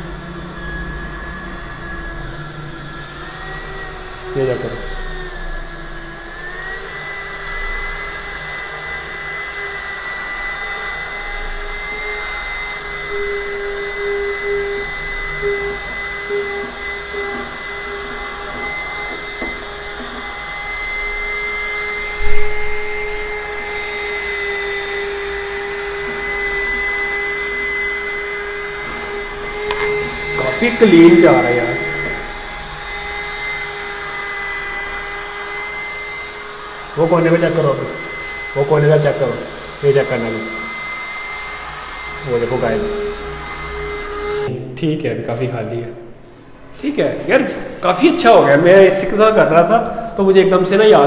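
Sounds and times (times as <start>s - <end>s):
small vacuum cleaner whining: 0.0s - 44.5s.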